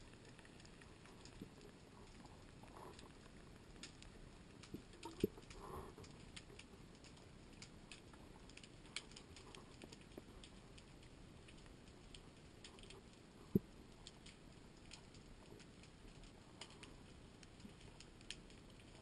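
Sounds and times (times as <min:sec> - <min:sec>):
faint underwater clicks and crackles: 0:00.0 - 0:19.0.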